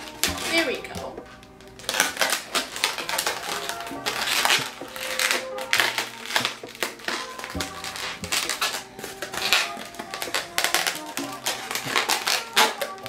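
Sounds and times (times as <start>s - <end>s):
background music: 0.0s - 13.0s
balloon twisting and squeaking: 0.0s - 13.0s.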